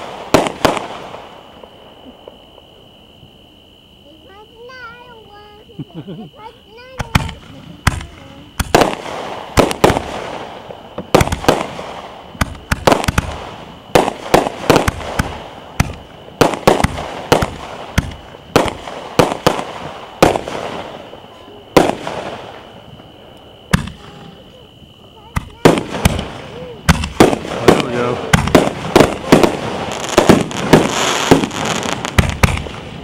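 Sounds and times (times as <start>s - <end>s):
firework hiss: 0.0s - 33.0s
fireworks bangs: 0.0s - 33.0s.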